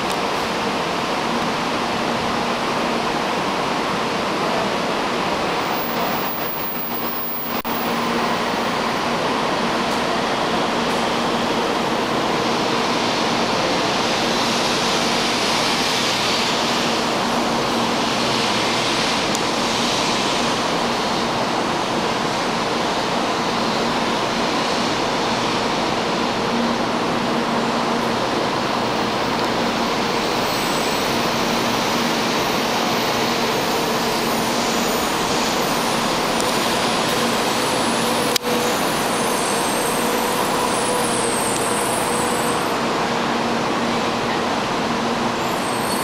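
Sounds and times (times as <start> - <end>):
train cars rushing past: 0.0 - 46.0.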